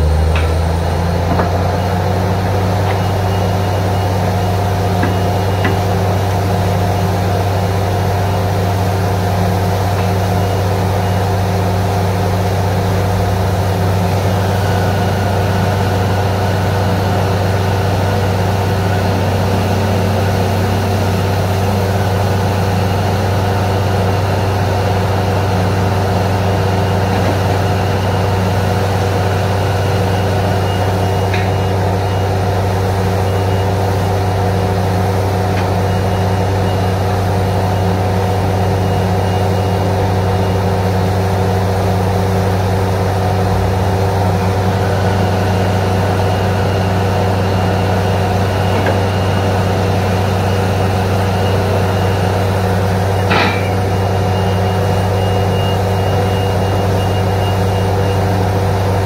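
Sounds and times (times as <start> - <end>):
drilling rig engine droning: 0.0 - 59.0.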